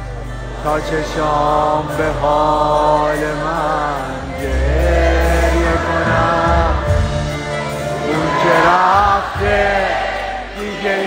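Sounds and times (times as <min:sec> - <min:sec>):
live band playing: 0:00.0 - 0:11.0
man singing pop song: 0:00.0 - 0:11.0.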